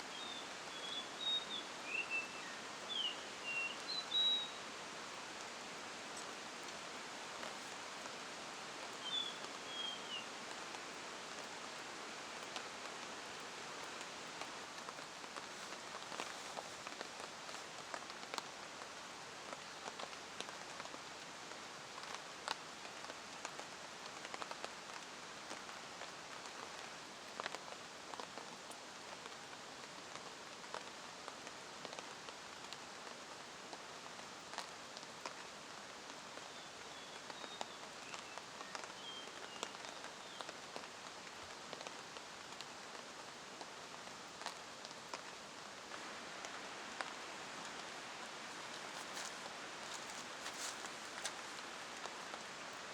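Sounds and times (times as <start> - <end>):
rain drops ticking on surfaces: 0.0 - 52.9.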